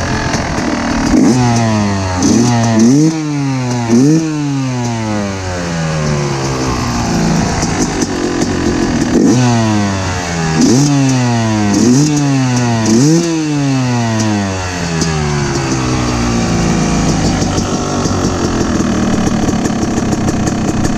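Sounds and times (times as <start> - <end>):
two-stroke engine idling: 0.0 - 20.9
two-stroke engine revving: 0.0 - 20.9.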